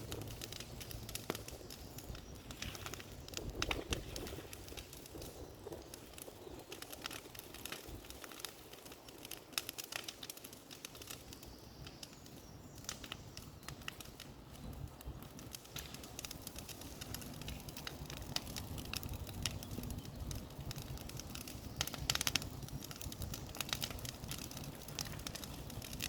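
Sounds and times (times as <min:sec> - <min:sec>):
bonfire crackling and snapping: 0:00.0 - 0:26.0.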